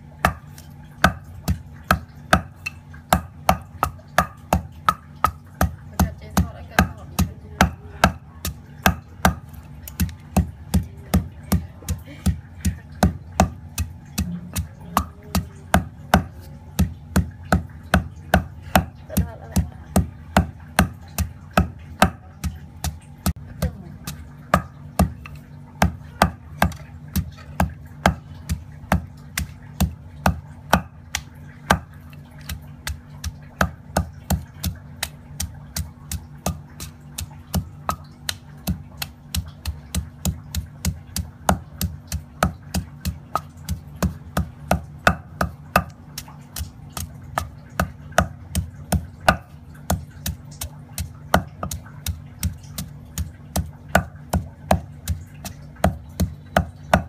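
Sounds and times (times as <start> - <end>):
low steady hum: 0.0 - 57.0
pestle thudding in stone mortar: 0.0 - 57.0.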